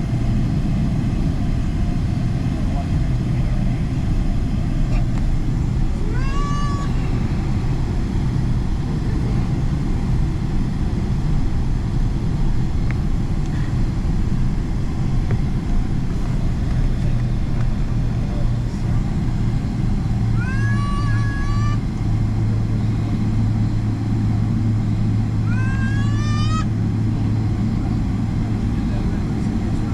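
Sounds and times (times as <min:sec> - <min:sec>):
jet engine rumble in cabin: 0:00.0 - 0:29.9.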